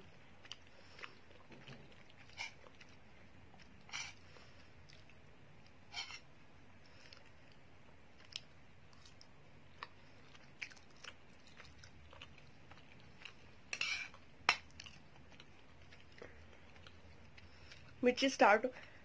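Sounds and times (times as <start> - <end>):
person chewing noodles: 0.0 - 18.0.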